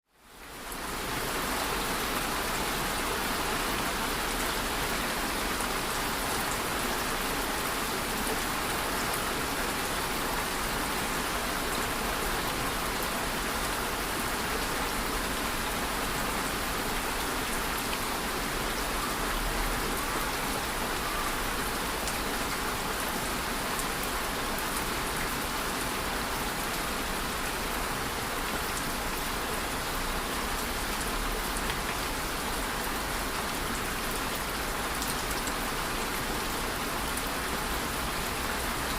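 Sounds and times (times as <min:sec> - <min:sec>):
steady rain hiss: 0:00.1 - 0:38.9.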